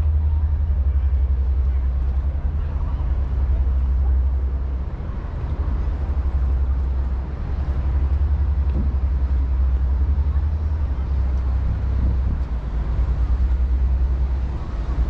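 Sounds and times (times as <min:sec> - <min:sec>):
city ambience low rumble: 0:00.0 - 0:15.0.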